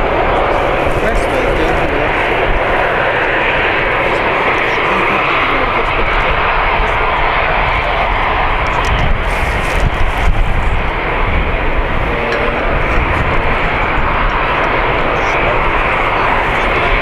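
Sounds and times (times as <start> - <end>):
jet engines rushing: 0.0 - 17.0
uneven low rumble: 0.0 - 17.0.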